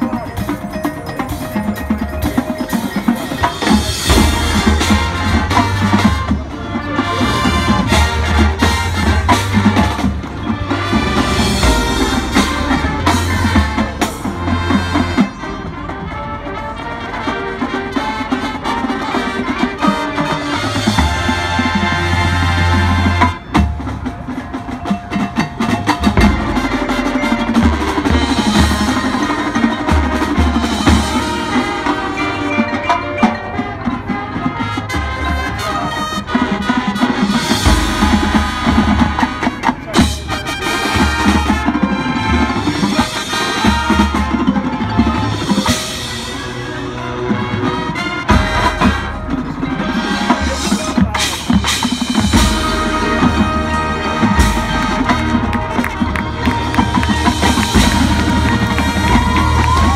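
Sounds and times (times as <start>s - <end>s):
marching band playing: 0.0s - 59.9s
marimba and xylophone: 0.0s - 59.9s.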